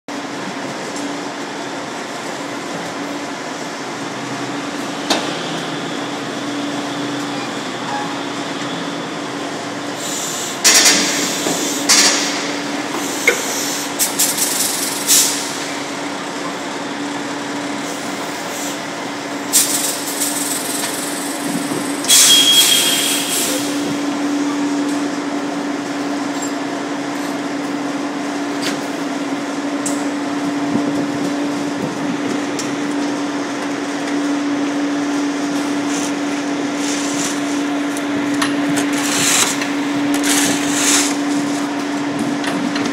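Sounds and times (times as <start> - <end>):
machinery humming: 0.2 - 42.9.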